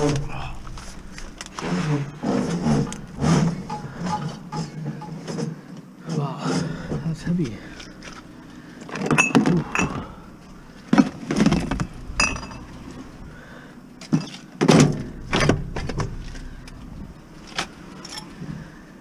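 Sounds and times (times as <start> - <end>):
scrap metal clunking and rattling: 0.0 - 5.8, 6.6 - 18.8.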